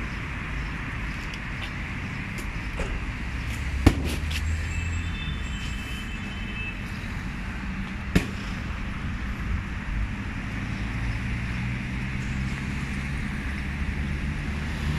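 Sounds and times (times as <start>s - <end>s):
road traffic engine rumble: 0.0s - 14.9s.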